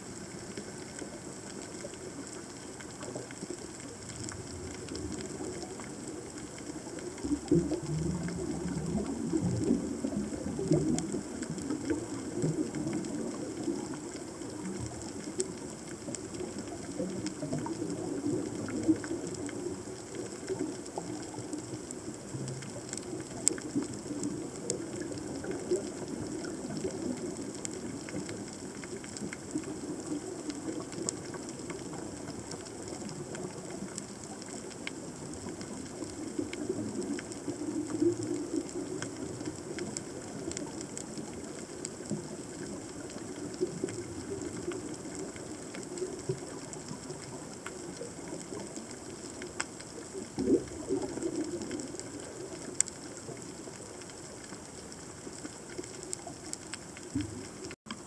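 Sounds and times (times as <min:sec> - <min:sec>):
crackle of sharp clicks underwater: 0:00.0 - 0:58.0
low rumble of moving water: 0:00.0 - 0:58.0.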